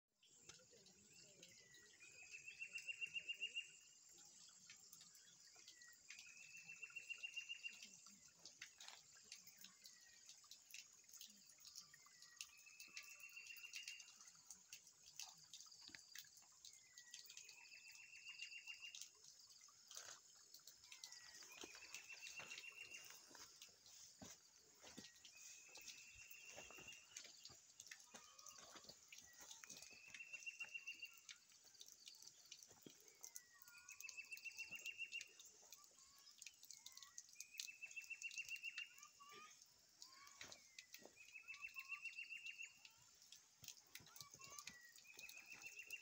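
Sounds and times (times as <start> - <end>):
small ticks: 7.2 - 46.0.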